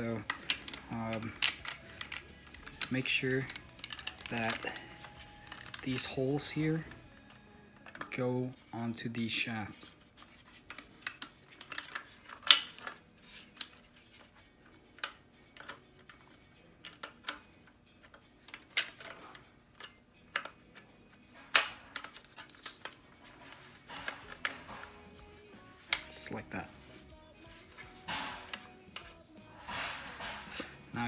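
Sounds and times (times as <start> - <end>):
scooter parts clicking and clinking: 0.0 - 8.5, 9.8 - 31.0.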